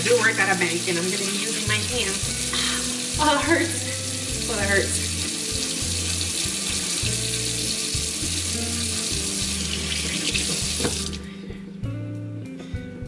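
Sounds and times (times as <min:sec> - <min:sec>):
faucet running into metal sink: 0:00.0 - 0:11.2
hands rinsing under water: 0:00.8 - 0:11.2.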